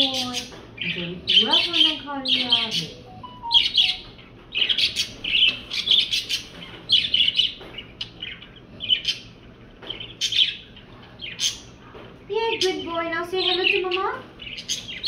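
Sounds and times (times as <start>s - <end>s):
birds chirping in scratchy bursts: 0.0s - 15.0s.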